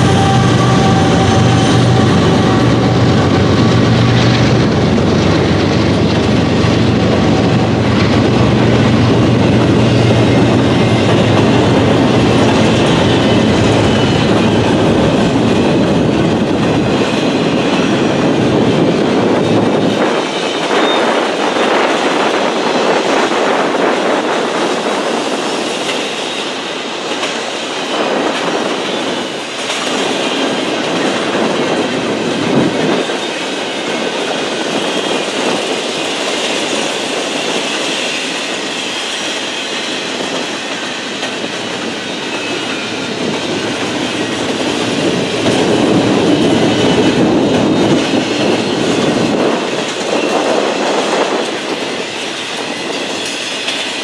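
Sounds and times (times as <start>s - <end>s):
freight train rumbling and rattling: 0.0s - 54.0s.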